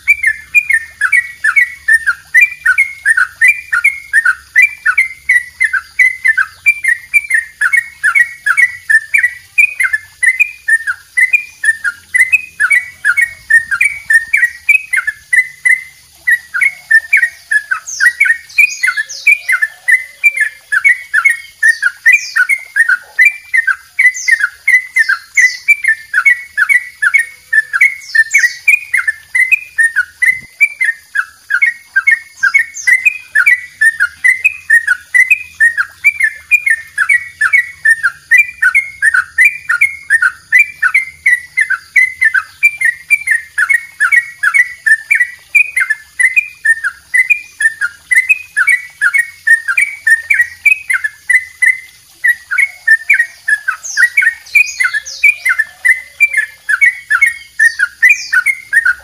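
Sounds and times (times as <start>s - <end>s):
bird singing bubbling notes: 0.0s - 59.0s.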